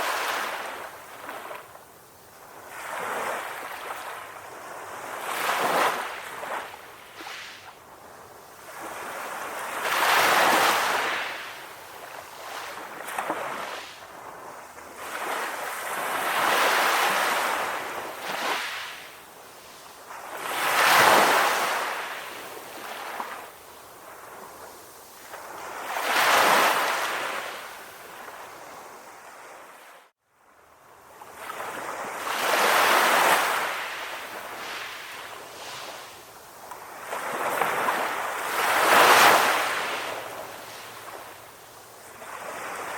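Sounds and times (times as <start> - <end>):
sea waves breaking on shore: 0.0 - 30.1, 30.9 - 42.9.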